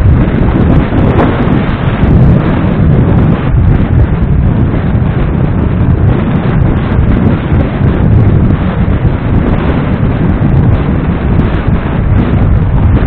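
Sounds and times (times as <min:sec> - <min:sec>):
motorcycle riding noise: 0:00.0 - 0:13.0
wind buffeting microphone: 0:00.0 - 0:13.0.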